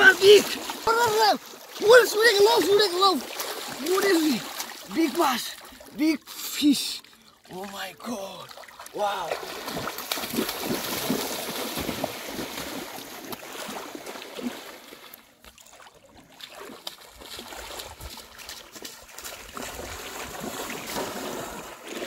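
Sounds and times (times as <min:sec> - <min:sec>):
splashing through shallow water: 0:00.0 - 0:22.0.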